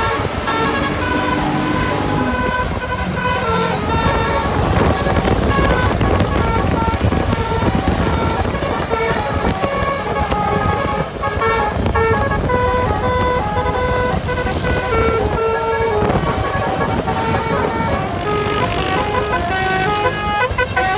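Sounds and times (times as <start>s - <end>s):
bus musical horn tune: 0.0s - 20.9s
engine and traffic rumble: 0.0s - 20.9s.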